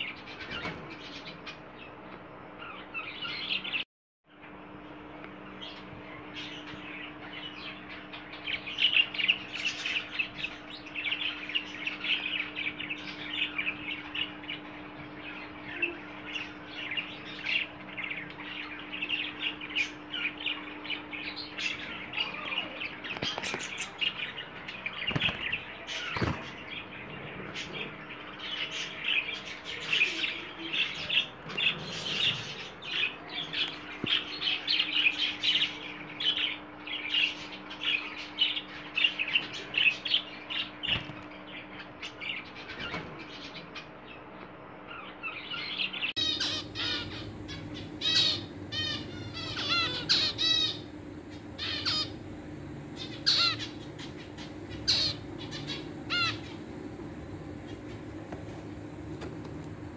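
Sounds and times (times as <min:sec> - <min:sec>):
finches chirping: 0:05.4 - 0:59.9.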